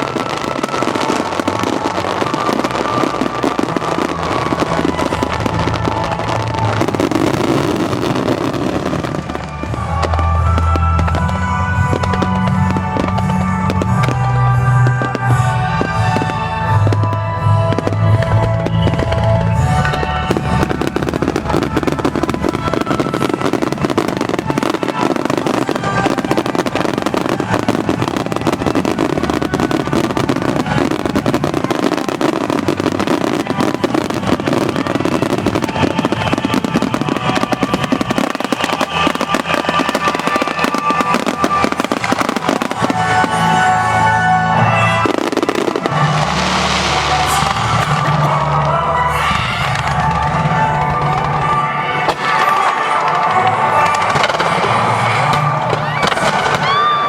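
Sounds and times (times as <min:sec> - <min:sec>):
fireworks bursting and crackling: 0:00.0 - 0:57.0
music: 0:00.0 - 0:57.0.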